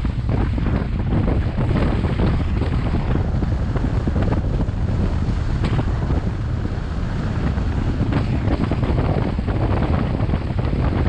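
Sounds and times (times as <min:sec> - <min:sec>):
gravel crackling and ticking: 0:00.0 - 0:11.0
wind buffeting microphone: 0:00.0 - 0:11.0.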